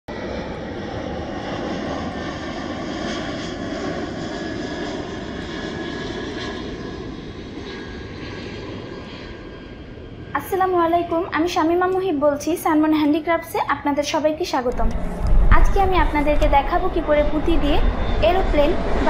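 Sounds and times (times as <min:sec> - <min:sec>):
airplane engine running: 0:00.1 - 0:19.0.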